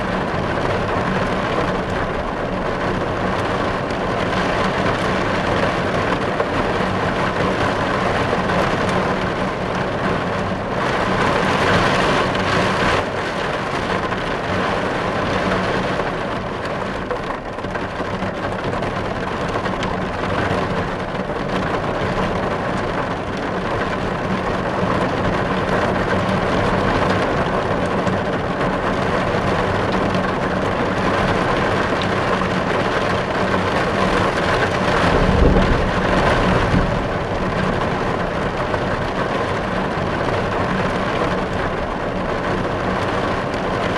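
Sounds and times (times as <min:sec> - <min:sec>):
heavy rain on car windows: 0:00.0 - 0:43.9.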